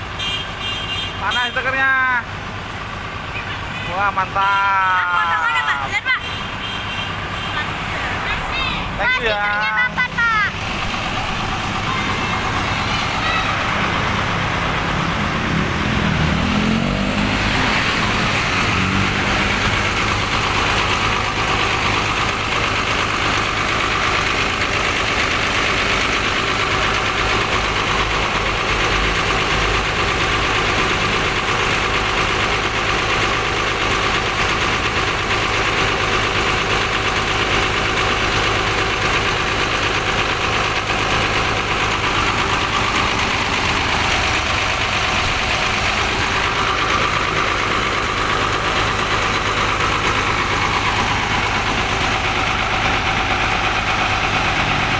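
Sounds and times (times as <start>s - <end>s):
bus diesel engine idling: 0.0s - 54.9s.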